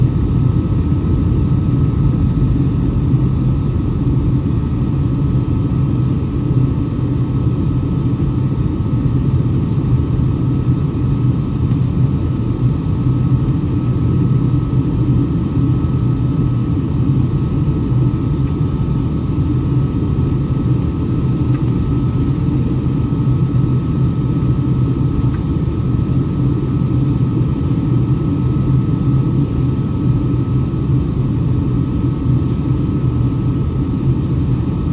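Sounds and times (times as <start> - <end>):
jet engine drone: 0.0 - 34.9.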